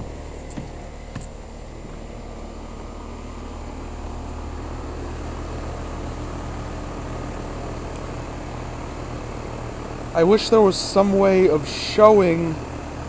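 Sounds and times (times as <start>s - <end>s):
air conditioner hum: 0.0s - 13.0s
fan air rushing: 0.0s - 13.0s.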